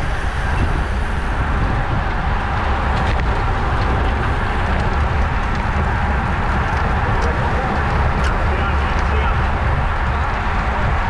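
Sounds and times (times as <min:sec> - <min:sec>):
bike tyres on asphalt: 0:00.0 - 0:11.0
wind rumble on microphone: 0:00.0 - 0:11.0.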